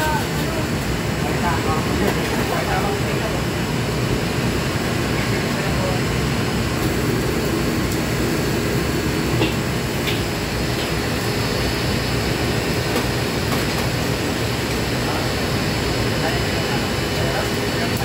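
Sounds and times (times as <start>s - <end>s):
gas burners roaring: 0.0s - 18.0s.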